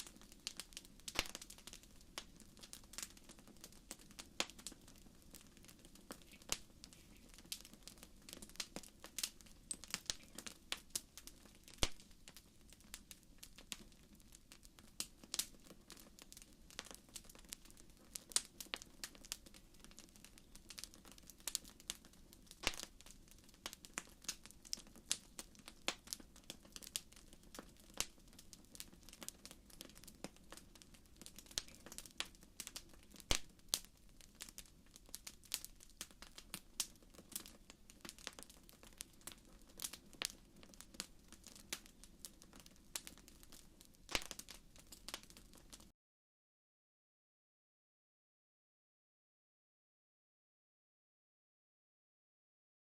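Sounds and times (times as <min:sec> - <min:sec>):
low steady hiss: 0:00.0 - 0:45.8
wood fire crackling and popping: 0:00.0 - 0:45.9.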